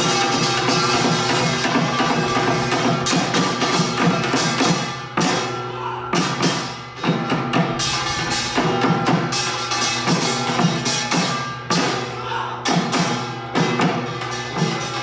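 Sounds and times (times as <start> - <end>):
drum beats: 0.0 - 15.0
ringing gong tones: 0.0 - 15.0
small gong clanging: 0.0 - 15.0.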